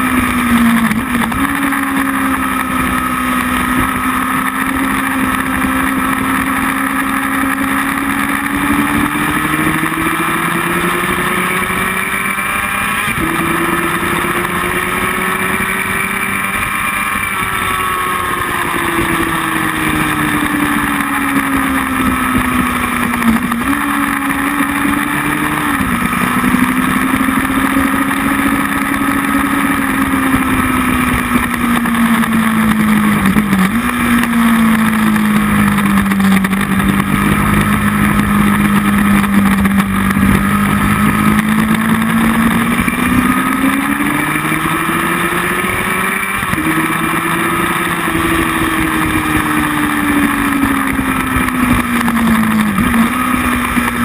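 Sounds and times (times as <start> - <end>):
motorcycle engine at speed: 0.0 - 54.0.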